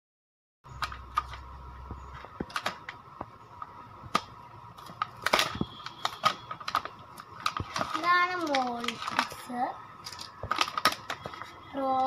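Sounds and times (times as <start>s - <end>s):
plastic packaging crackling: 2.1s - 12.0s.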